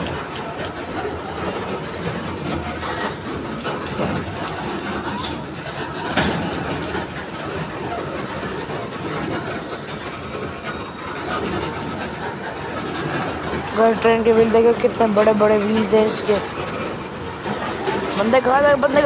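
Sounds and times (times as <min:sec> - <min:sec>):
freight wagons rumbling on rails: 0:00.0 - 0:19.0.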